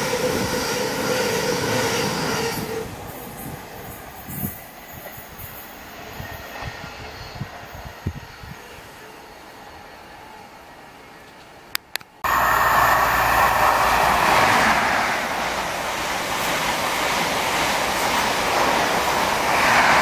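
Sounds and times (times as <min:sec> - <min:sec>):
express train rushing past: 0:00.0 - 0:11.6, 0:12.2 - 0:20.0.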